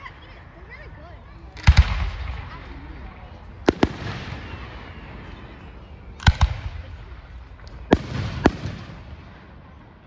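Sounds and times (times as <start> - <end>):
fireworks bursting: 1.5 - 9.6.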